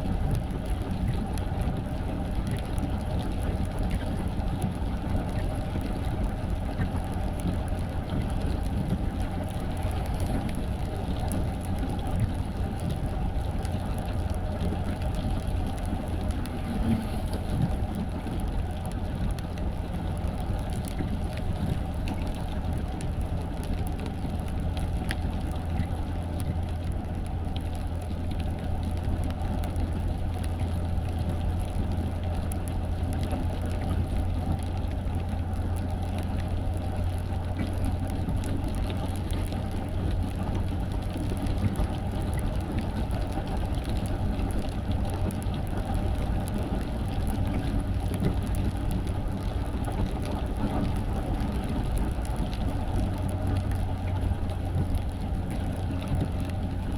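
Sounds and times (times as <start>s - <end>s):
car cabin drone while driving: 0.0s - 56.9s.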